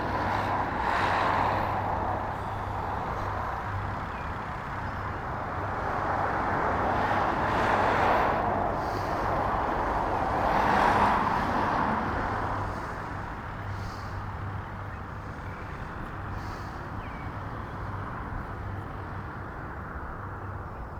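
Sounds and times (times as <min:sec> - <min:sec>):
road traffic noise: 0:00.0 - 0:20.9.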